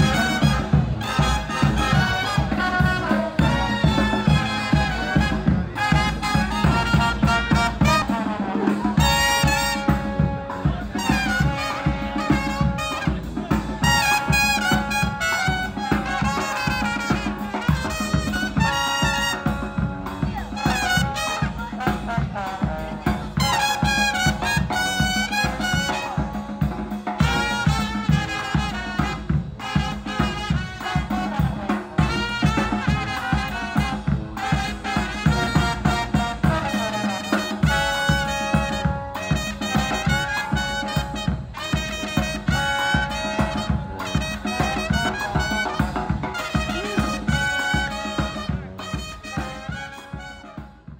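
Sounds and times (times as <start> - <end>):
steady drum beat: 0.0 - 50.9
trumpets and trombone playing jazz: 0.0 - 50.9.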